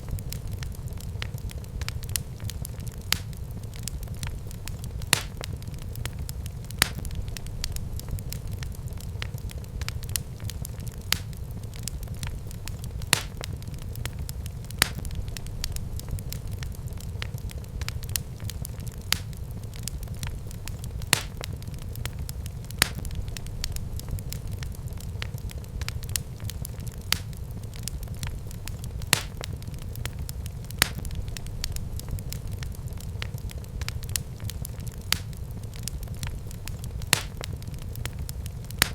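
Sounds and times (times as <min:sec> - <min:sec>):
low rumble of burning: 0:00.0 - 0:38.9
sharp pops of fire: 0:00.0 - 0:38.9
wood fire crackling: 0:00.0 - 0:38.9.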